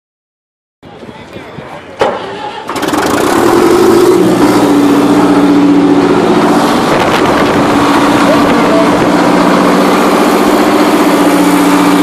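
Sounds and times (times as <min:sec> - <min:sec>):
tractor engine starting and running: 0:01.8 - 0:12.0.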